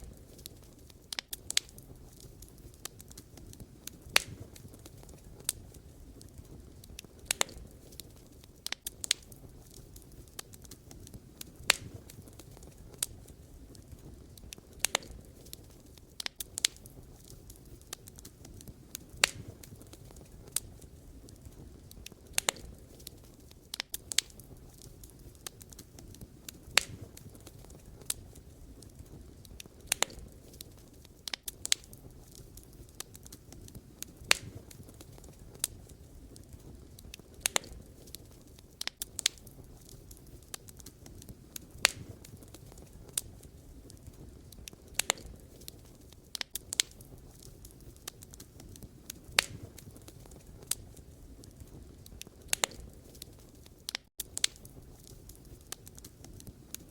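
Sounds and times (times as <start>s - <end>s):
fire flames rushing: 0.0s - 56.9s
logs crackling and popping: 0.0s - 56.9s.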